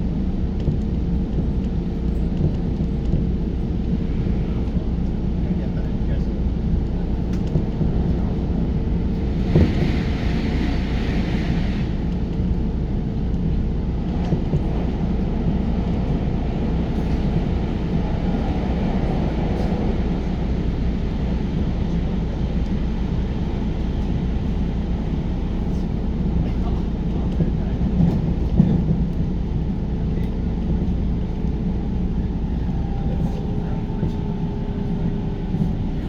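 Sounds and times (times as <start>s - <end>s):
train rumbling inside carriage: 0.0s - 36.0s.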